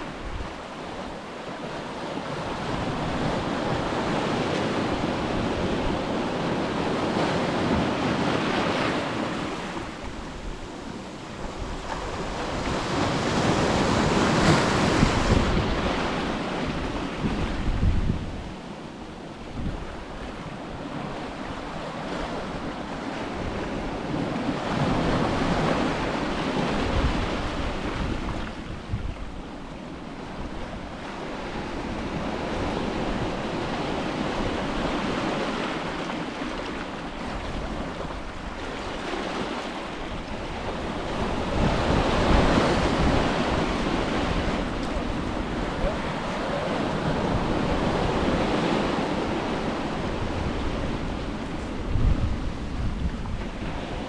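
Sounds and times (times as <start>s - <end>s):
ocean waves breaking: 0.0s - 54.0s
wind buffeting microphone: 2.2s - 36.4s, 37.0s - 54.0s.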